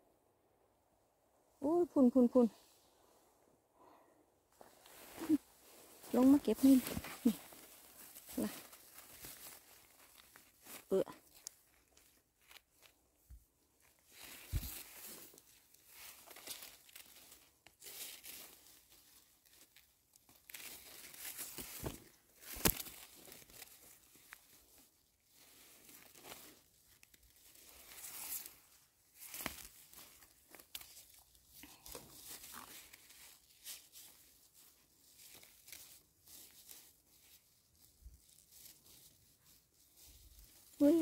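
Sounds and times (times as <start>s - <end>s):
rustling vegetation: 1.6s - 41.0s.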